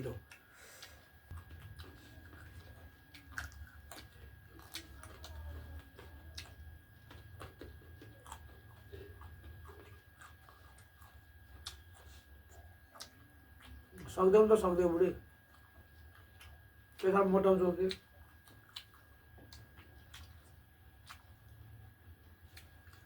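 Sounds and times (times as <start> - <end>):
food being chewed: 0.0 - 23.0.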